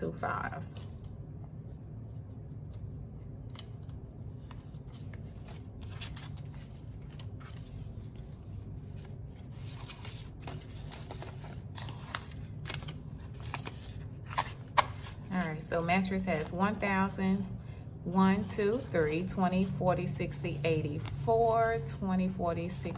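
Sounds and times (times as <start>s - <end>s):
paper banknotes rustling: 0.2s - 17.5s, 18.3s - 22.9s.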